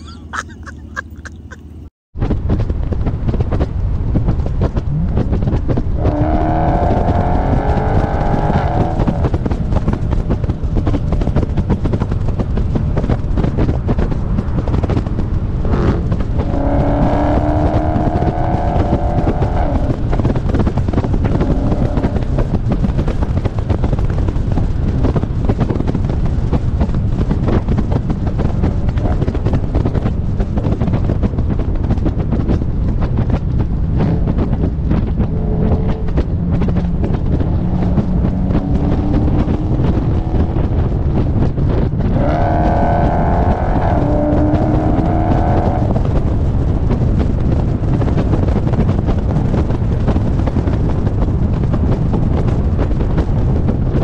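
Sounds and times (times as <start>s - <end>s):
car engine rumbling: 0.0s - 54.0s
wind rushing over microphone: 2.2s - 54.0s.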